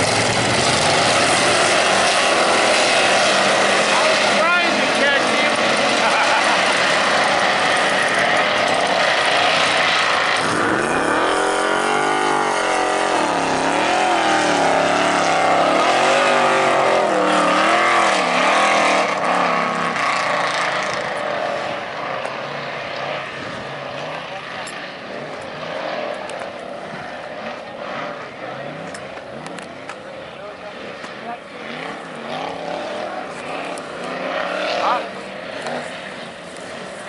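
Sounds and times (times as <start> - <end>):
race car engine revving: 0.0 - 37.0.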